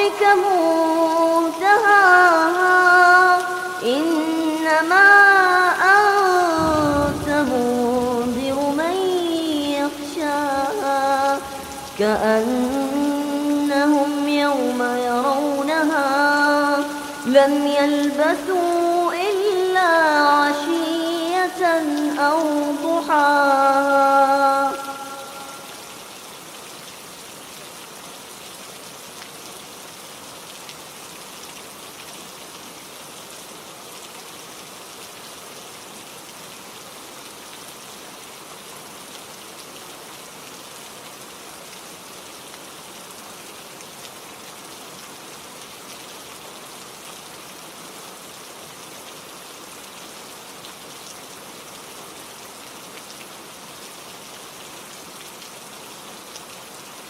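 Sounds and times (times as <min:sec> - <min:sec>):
steady rain falling: 0:00.0 - 0:57.0
raindrops pattering on a surface: 0:00.7 - 0:57.0.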